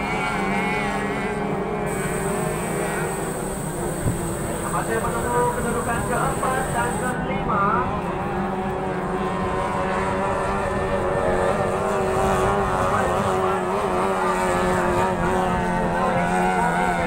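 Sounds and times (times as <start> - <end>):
speedboat outboard engine: 0.0 - 17.0.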